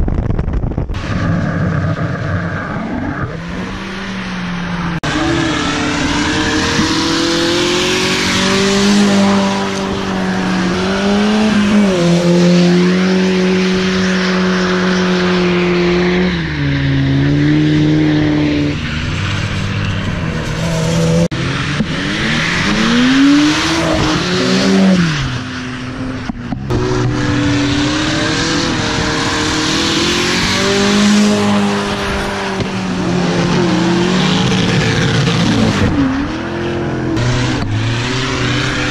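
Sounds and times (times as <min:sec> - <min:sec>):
car engines at high revs: 0:00.9 - 0:38.9.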